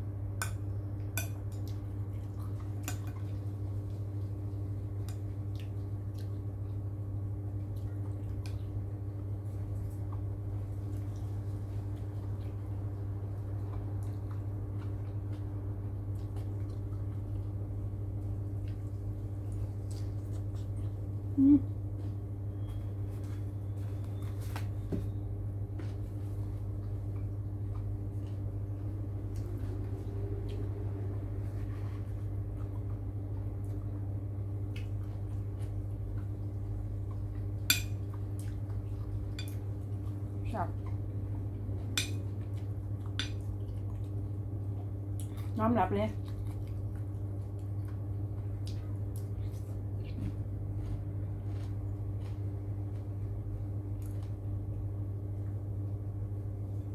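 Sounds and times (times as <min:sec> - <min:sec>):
low electrical hum: 0:00.0 - 0:56.9
soft wet chewing: 0:00.3 - 0:24.8, 0:25.7 - 0:56.9.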